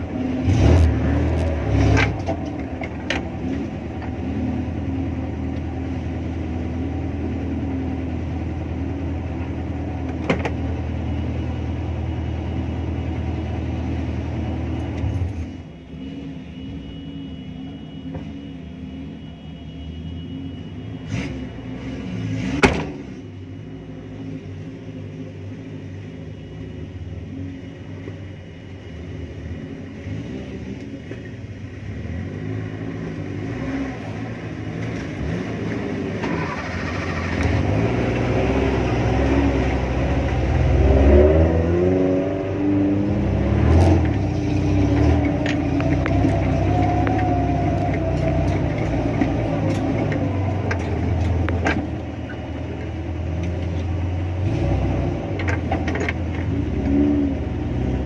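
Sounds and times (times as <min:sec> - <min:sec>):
off-road vehicle engine rumbling: 0:00.0 - 0:58.0.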